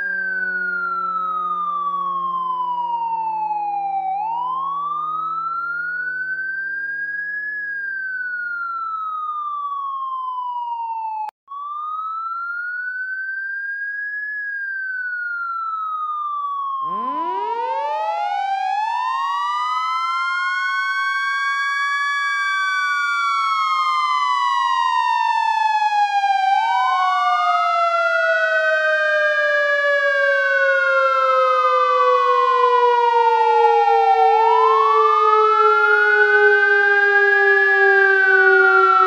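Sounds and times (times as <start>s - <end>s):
fire truck siren wailing: 0.0s - 14.0s, 14.6s - 39.0s
siren winding up and sinking: 0.0s - 39.0s.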